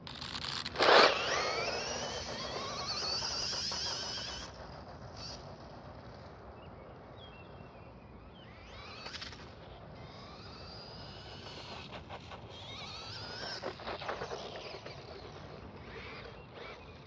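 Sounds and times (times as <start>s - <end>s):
rc car motor whine: 0.0s - 17.0s.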